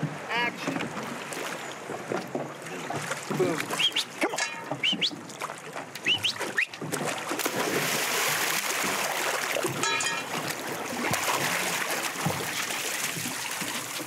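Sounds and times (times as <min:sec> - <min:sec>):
water splashing and rushing: 0:00.0 - 0:14.0.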